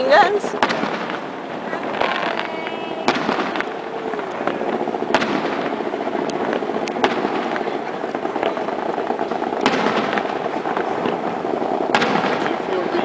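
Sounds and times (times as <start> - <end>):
firework shells bursting: 0.0 - 13.0
steady background rumble: 0.0 - 13.0.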